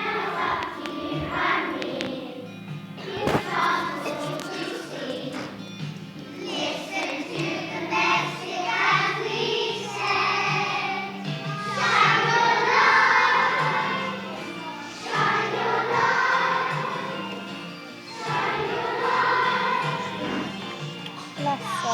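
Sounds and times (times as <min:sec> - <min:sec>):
choir singing: 0:00.0 - 0:21.0
low musical accompaniment: 0:00.0 - 0:21.9.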